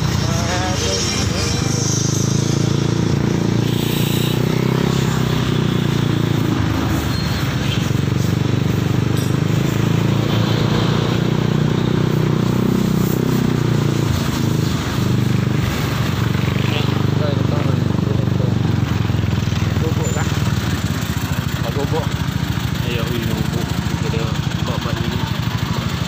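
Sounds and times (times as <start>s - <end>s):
motorcycle engine running: 0.0s - 26.0s
road noise: 0.0s - 26.0s.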